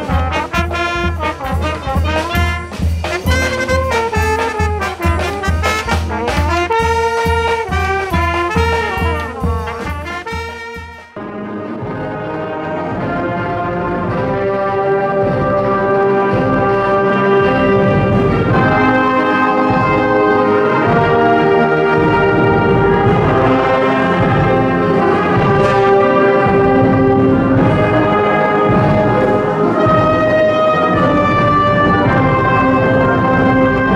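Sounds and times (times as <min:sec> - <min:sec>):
concert wind band playing: 0:00.0 - 0:33.9.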